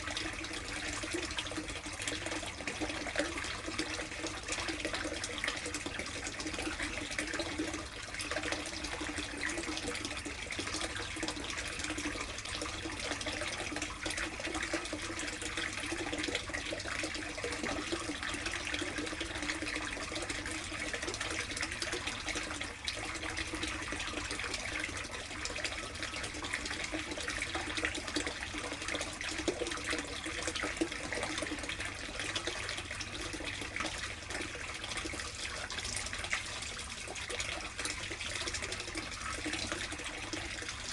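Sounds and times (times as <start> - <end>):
water running into a tub: 0.0 - 40.9.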